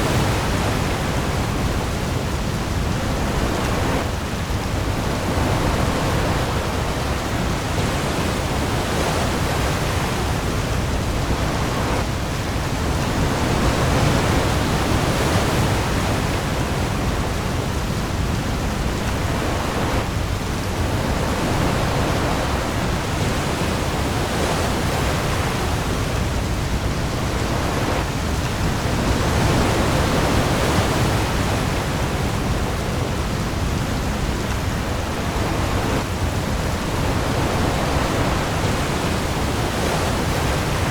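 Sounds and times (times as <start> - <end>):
heavy rain on the sea: 0.0 - 40.9
waves: 0.0 - 40.9.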